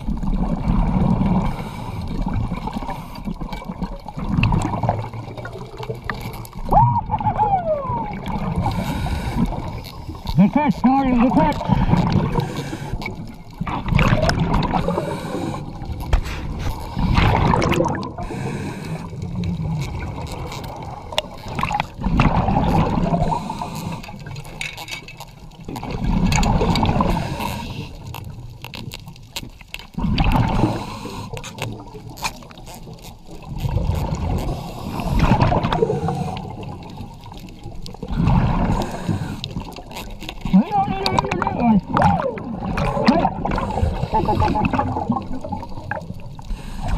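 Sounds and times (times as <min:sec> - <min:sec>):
seawater washing and gurgling: 0:00.0 - 0:46.9
small scrapes and clicks: 0:01.3 - 0:06.7, 0:08.3 - 0:17.7, 0:18.3 - 0:46.9.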